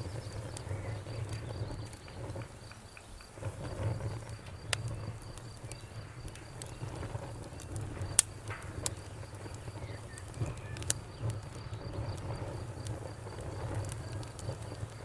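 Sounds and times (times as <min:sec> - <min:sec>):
cricket chirping: 0:00.0 - 0:15.0
wood fire crackling: 0:00.0 - 0:15.0.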